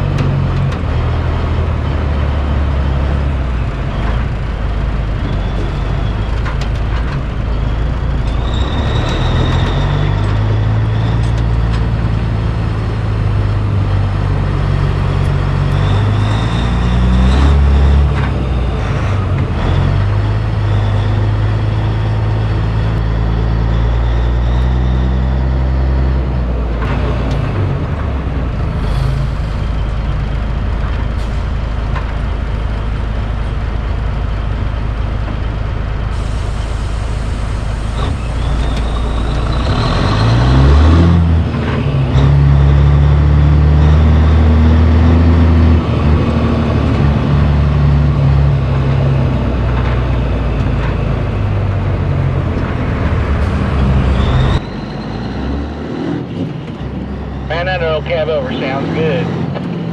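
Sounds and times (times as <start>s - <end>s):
truck diesel engine shifting gears: 0.0s - 59.9s.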